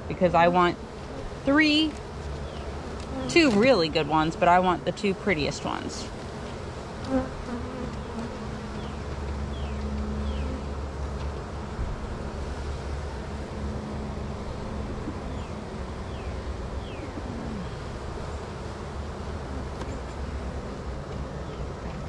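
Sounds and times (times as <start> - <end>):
bees buzzing: 0.0 - 21.8.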